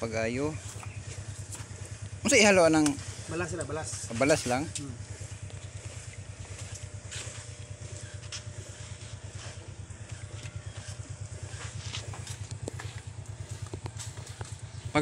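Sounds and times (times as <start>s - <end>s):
potter's wheel rumbling: 0.0s - 15.0s.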